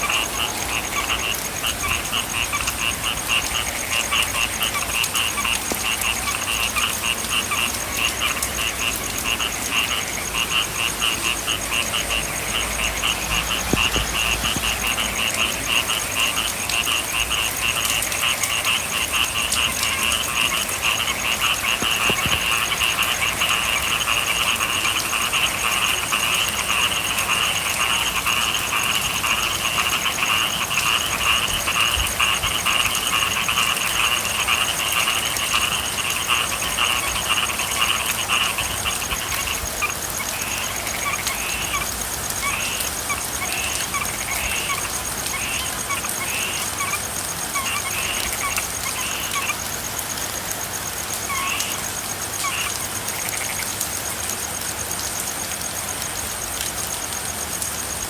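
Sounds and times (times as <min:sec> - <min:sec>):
frogs calling in trills: 0:00.0 - 0:58.0
light rain hiss: 0:00.0 - 0:58.0.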